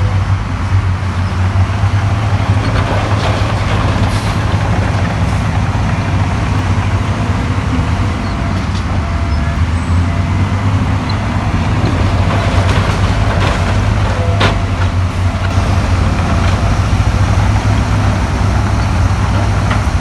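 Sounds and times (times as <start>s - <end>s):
heavy diesel machinery rumbling: 0.0s - 20.0s.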